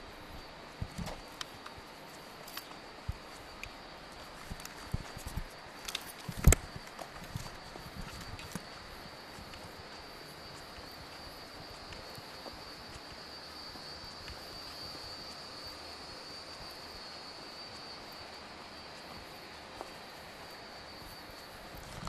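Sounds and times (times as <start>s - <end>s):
steady hiss: 0.0s - 22.0s
footsteps on stone paving: 0.7s - 22.0s.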